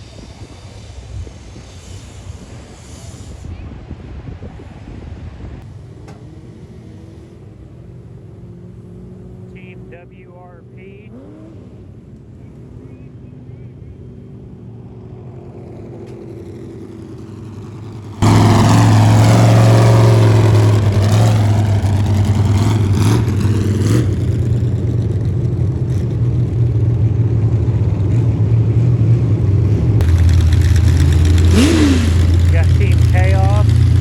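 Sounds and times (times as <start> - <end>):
vehicle engine loud drone: 0.0 - 34.0.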